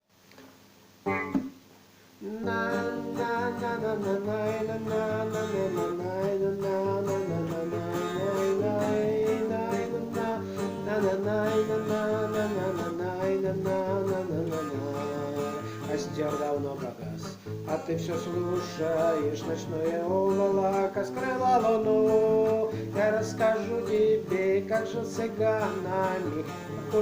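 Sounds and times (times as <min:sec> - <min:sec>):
guitar strumming: 0:01.0 - 0:27.0.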